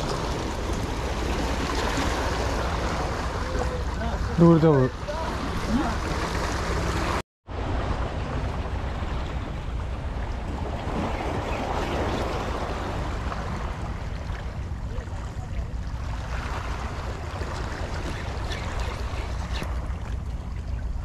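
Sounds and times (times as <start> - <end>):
sea waves washing: 0.0 - 21.0
wind rumble on microphone: 0.0 - 21.0.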